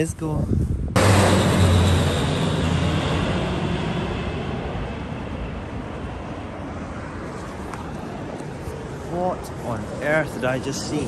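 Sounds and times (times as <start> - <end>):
low-flying plane roaring past: 0.9 - 11.0.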